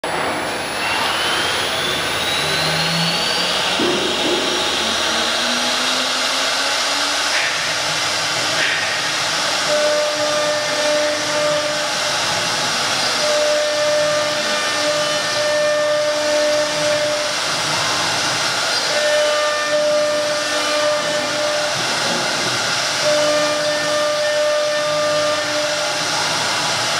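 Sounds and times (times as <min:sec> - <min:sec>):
steady machine tones: 0:00.0 - 0:26.9
router cutting wood hiss: 0:00.1 - 0:26.9
router spindle whine: 0:00.1 - 0:26.9.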